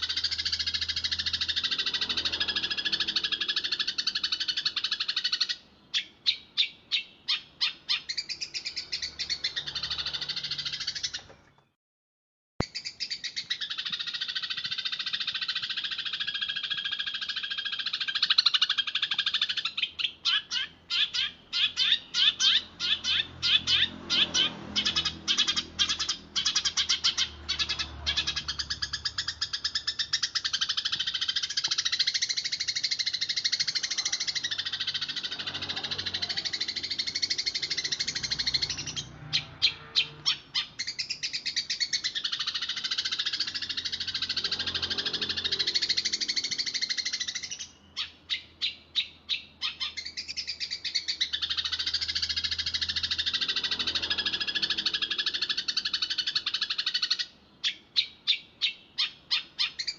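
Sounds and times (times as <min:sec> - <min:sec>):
sparrow chattering in trills: 0:00.0 - 0:11.3, 0:12.6 - 0:59.9
sparrow chirps: 0:00.0 - 0:11.7, 0:12.6 - 0:59.9.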